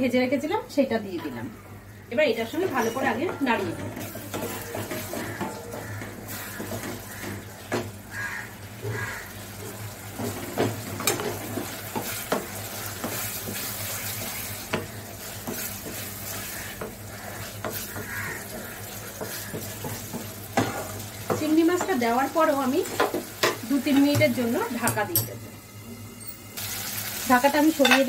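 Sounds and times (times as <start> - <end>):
low sizzle of frying: 0.0 - 28.0.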